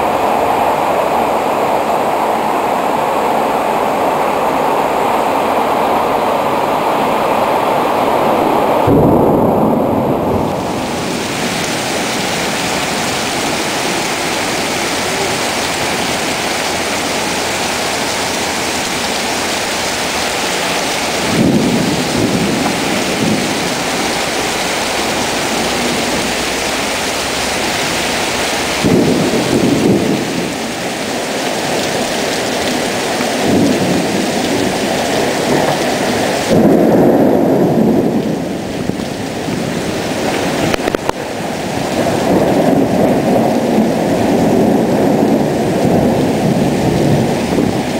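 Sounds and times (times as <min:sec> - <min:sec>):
low surges: 0:00.0 - 0:41.2
heavy rain pouring: 0:00.0 - 0:47.9.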